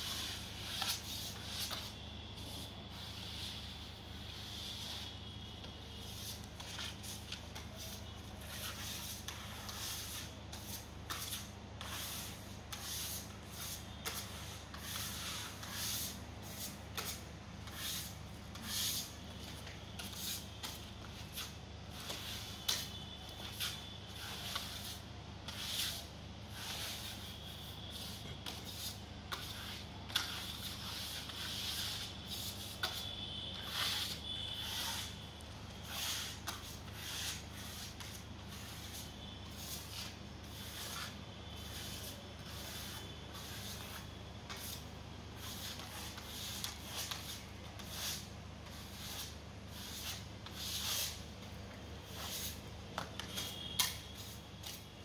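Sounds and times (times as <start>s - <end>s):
trowels scraping wet compound: 0.0s - 5.1s, 5.9s - 44.8s, 45.4s - 54.8s.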